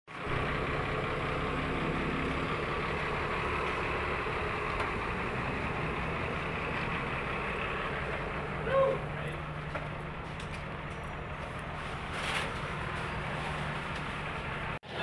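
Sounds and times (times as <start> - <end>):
heavy vehicle engine idling: 0.1 - 15.0.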